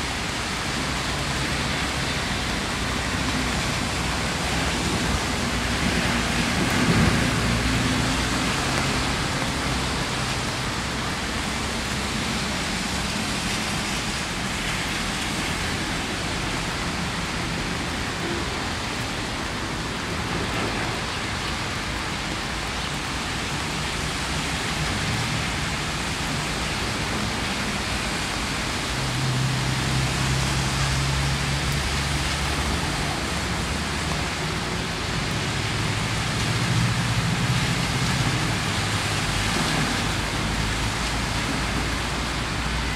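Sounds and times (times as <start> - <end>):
passing traffic rumble: 0.0 - 42.9
steady rain falling: 0.0 - 42.9.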